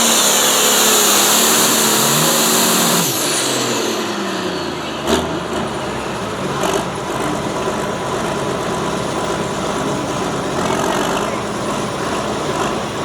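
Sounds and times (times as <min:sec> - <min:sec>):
vehicle engine running loudly: 0:00.0 - 0:13.0.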